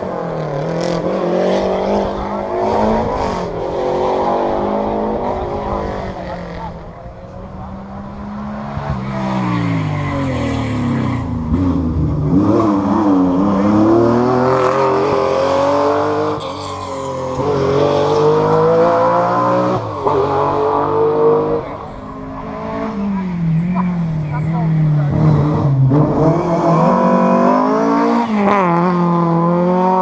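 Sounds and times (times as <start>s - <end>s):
rally car engine accelerating: 0.0s - 30.0s.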